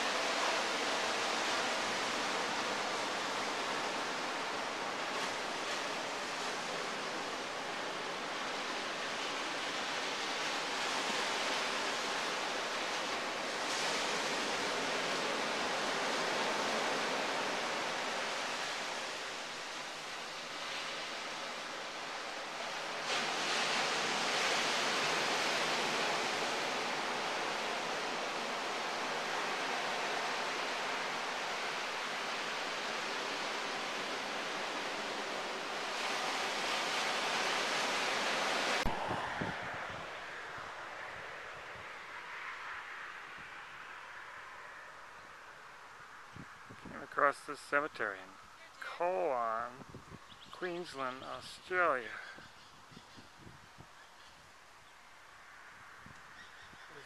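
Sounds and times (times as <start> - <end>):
ocean surf breaking: 0.0 - 49.9, 50.5 - 52.4.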